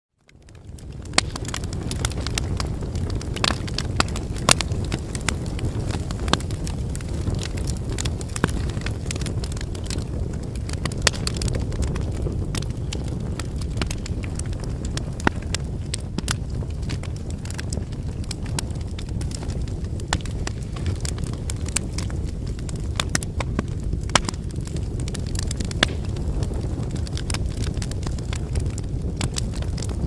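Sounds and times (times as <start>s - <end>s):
firewood crackling and popping: 0.1s - 30.0s
campfire flames rushing: 0.2s - 30.0s.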